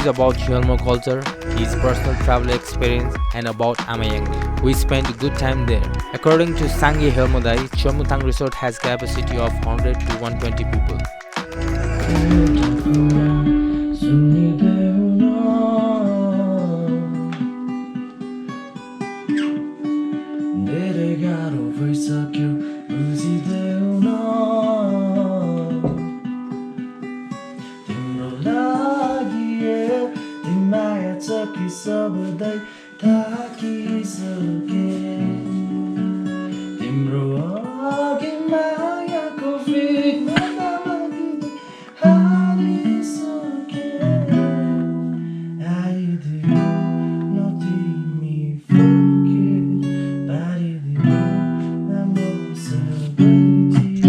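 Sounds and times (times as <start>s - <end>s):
person singing: 0.0s - 17.6s, 20.6s - 26.2s, 27.6s - 35.8s, 36.8s - 54.0s
strummed acoustic guitar: 0.0s - 54.0s.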